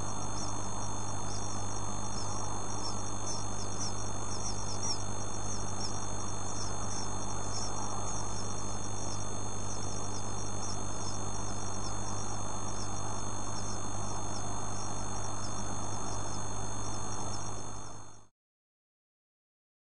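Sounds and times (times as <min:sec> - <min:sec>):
electrical hum and hiss: 0:00.0 - 0:18.3.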